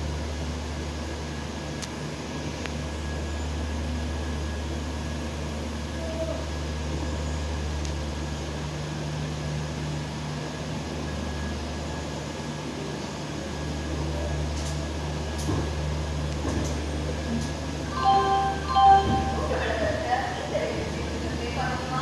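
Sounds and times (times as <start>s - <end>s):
train coach humming: 0.0s - 22.0s.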